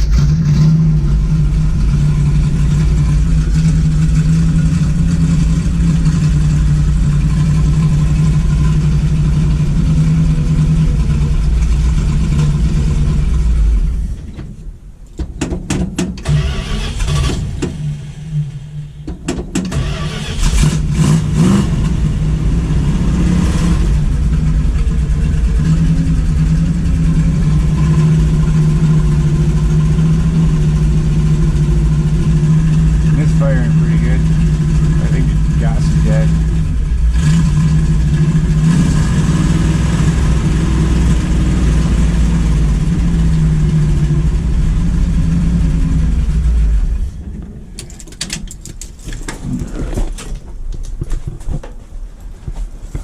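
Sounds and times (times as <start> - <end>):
car engine running rough: 0.0 - 51.7.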